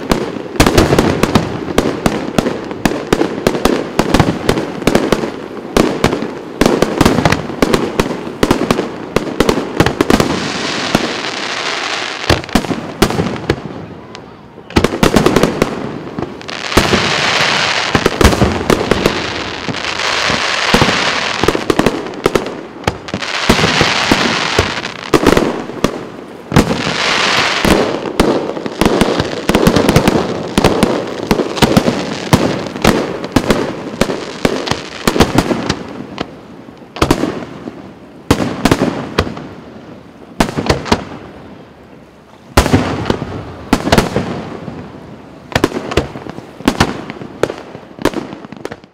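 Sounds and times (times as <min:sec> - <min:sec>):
fireworks crackling: 0:00.0 - 0:48.9.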